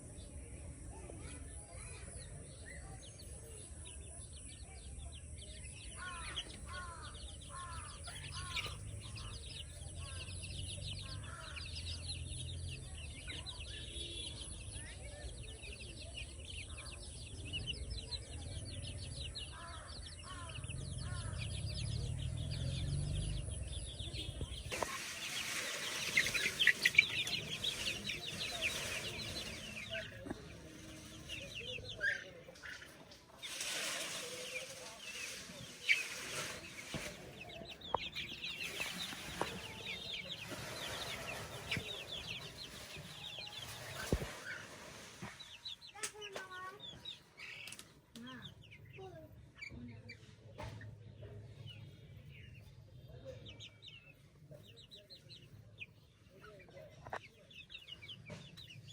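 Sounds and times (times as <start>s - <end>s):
chickens clucking and chirping: 0.0s - 58.9s.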